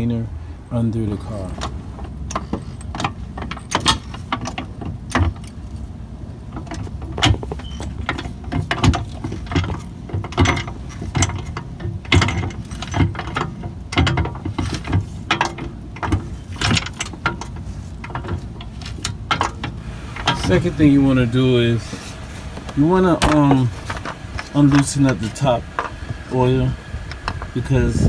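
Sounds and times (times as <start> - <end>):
car jack clicking: 1.6 - 5.8, 6.5 - 28.0.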